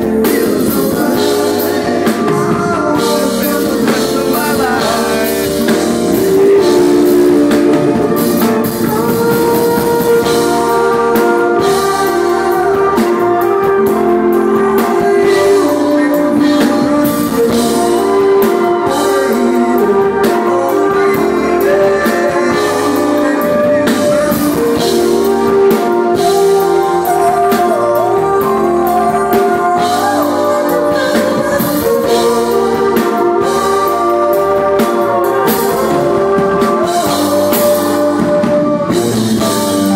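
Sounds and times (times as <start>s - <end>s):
live soul band playing: 0.0s - 39.9s
person singing: 0.0s - 39.9s.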